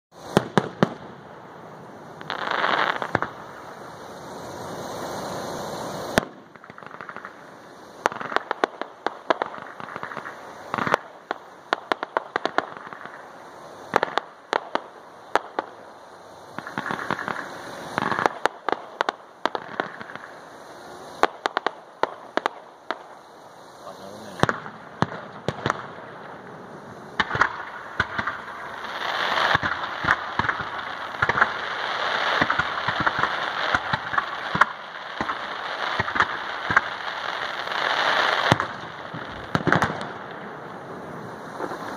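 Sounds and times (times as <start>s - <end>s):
fireworks crackling: 0.1s - 41.9s
fireworks shells bursting with bangs: 0.1s - 41.9s
steady rushing hiss: 0.1s - 41.9s.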